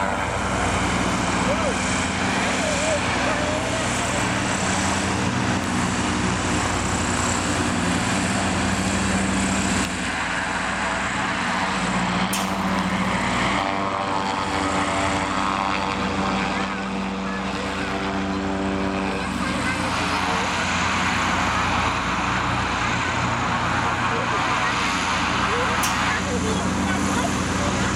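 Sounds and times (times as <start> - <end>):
airship engines droning: 0.0 - 27.9.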